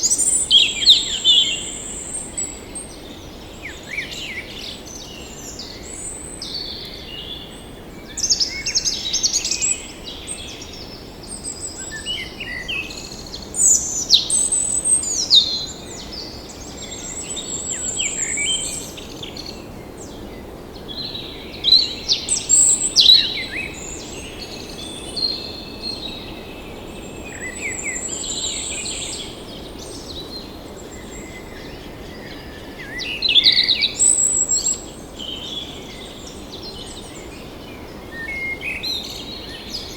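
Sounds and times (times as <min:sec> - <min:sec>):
forest ambience hiss: 0:00.0 - 0:39.9.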